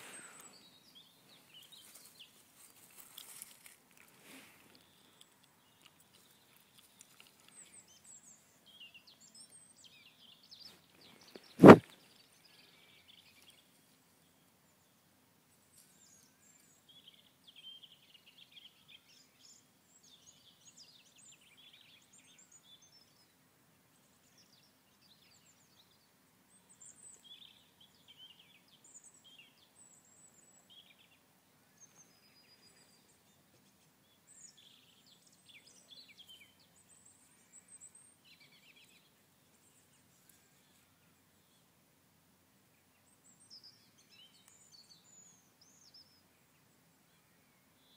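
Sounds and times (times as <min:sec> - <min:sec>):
bird chirps and song: 0:00.0 - 0:41.8, 0:42.7 - 0:47.9.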